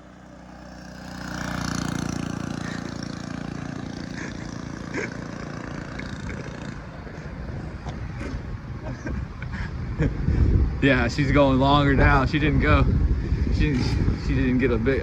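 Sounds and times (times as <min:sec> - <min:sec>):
mini bike engine at speed: 0:00.0 - 0:15.0.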